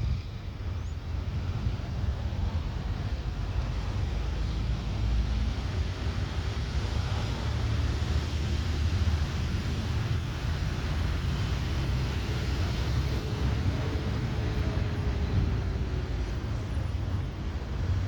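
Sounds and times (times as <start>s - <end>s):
jet engines flying over: 0.0s - 18.0s.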